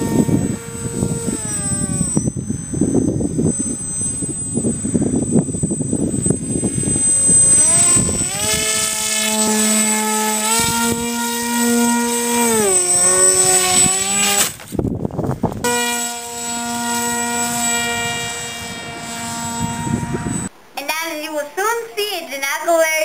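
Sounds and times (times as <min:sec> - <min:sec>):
electric motor and propeller whine: 0:00.0 - 0:20.7.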